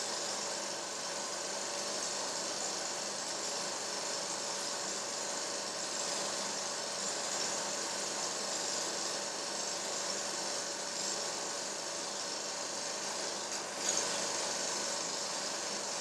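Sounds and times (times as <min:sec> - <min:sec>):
mechanical whirr and hiss: 0:00.0 - 0:16.0.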